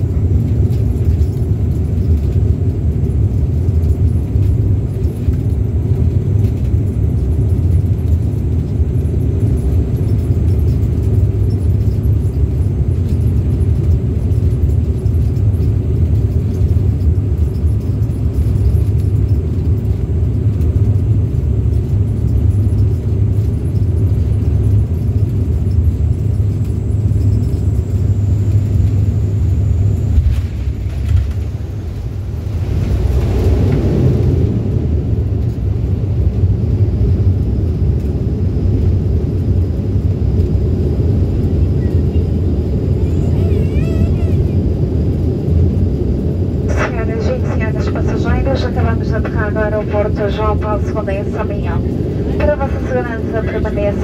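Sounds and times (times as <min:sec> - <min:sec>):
propeller engine drone: 0:00.0 - 0:54.0.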